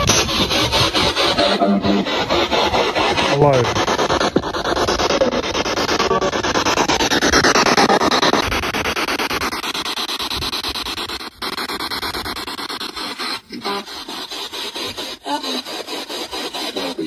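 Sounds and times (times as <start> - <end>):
snatches of radio sound: 0.0 - 8.9, 9.8 - 17.0
chopped radio static hiss: 0.0 - 15.8.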